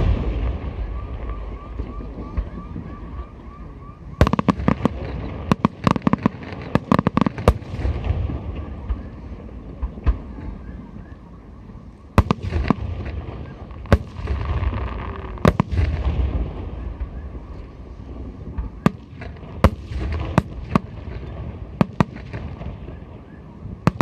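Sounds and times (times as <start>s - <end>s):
crackling rumble: 0.0s - 24.0s
fireworks bangs: 0.0s - 24.0s.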